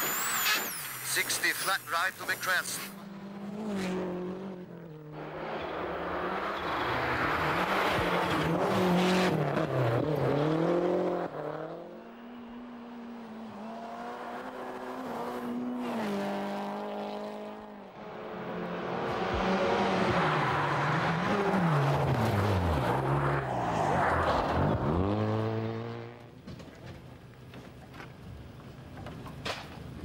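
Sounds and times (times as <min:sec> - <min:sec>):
rally car engines revving: 0:00.0 - 0:26.3.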